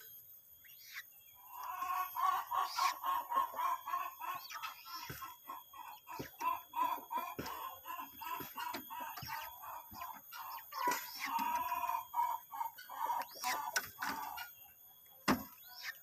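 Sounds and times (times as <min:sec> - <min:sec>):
bird clucking: 0:00.7 - 0:16.0.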